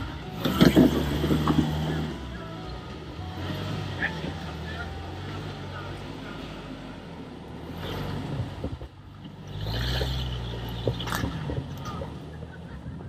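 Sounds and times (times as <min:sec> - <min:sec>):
engine running at crawling speed: 0:00.0 - 0:13.0
tires crunching on rock: 0:00.0 - 0:13.0.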